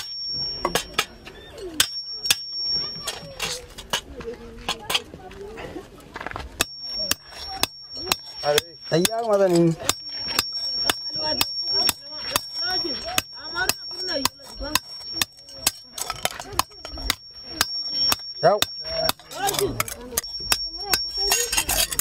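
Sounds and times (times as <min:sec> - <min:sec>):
hammer beating metal on anvil: 0:00.0 - 0:01.2, 0:01.8 - 0:04.0, 0:06.6 - 0:22.0
people's voices: 0:00.0 - 0:22.0.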